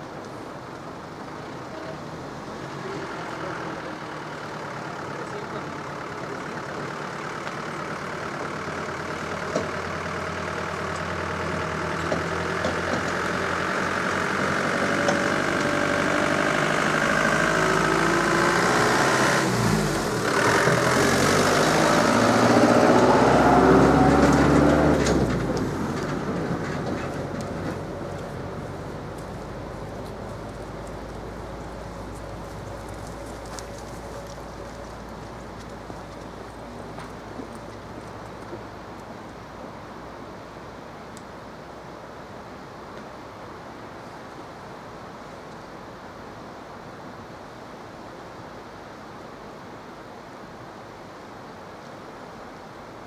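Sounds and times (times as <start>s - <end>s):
road train engine passing: 0.0s - 49.6s.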